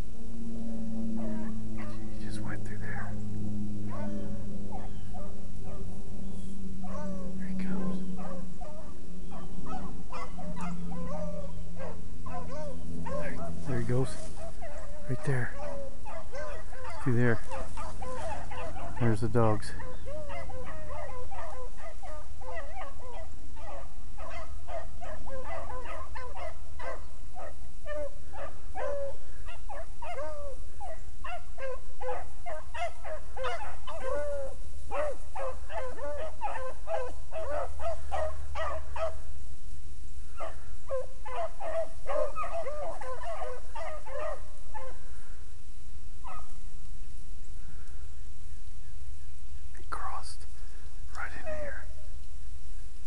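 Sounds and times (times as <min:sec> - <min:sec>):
pack of hounds baying: 0:00.0 - 0:39.3, 0:40.4 - 0:45.1, 0:46.2 - 0:46.6.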